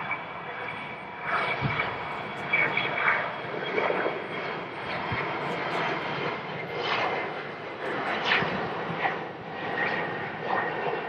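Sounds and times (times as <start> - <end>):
faint high whine: 0.0 - 10.0
airplane engines rushing: 0.0 - 11.0.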